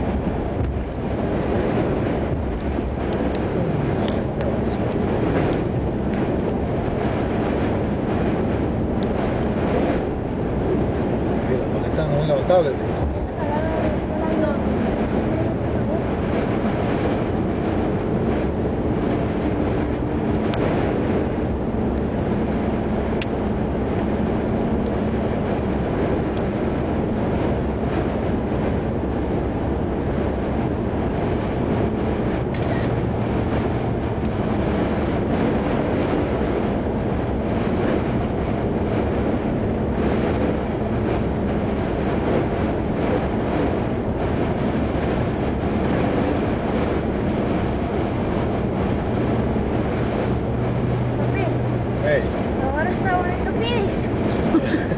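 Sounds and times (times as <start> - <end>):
low engine hum: 0.0 - 54.9.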